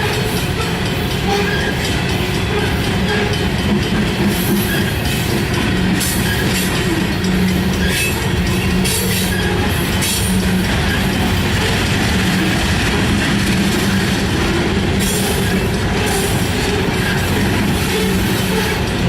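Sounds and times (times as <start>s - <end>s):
freight train rumbling past: 0.0s - 19.0s
train wheels clattering: 0.0s - 19.0s.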